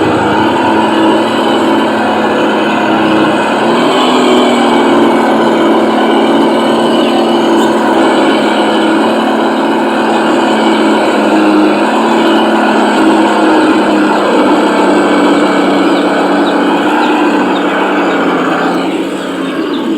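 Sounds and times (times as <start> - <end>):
remote-control car running: 0.0 - 19.9.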